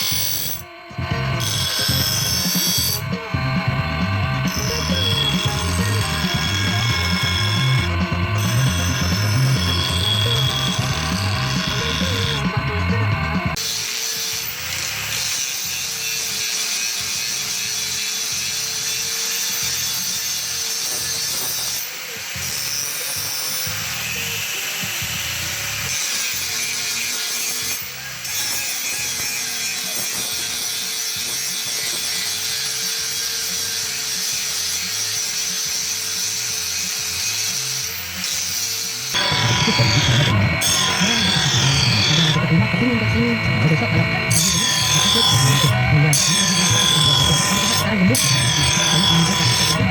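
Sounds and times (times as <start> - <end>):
power grinder grinding steel: 0.0 - 49.9.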